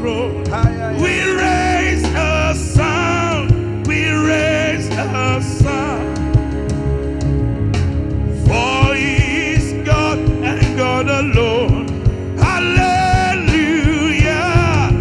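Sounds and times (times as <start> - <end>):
person singing with vibrato: 0.0 - 6.7, 8.4 - 15.0
band accompaniment with steady beat: 0.0 - 15.0.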